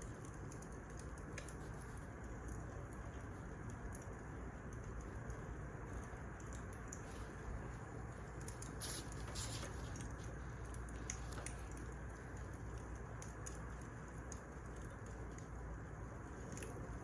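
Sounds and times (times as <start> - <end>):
low rumble of fire: 0.0 - 17.0.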